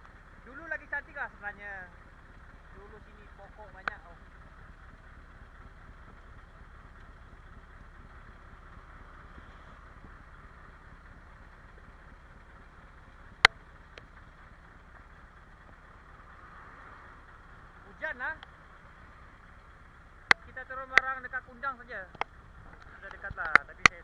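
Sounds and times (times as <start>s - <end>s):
truck diesel engine humming: 0.0s - 24.0s.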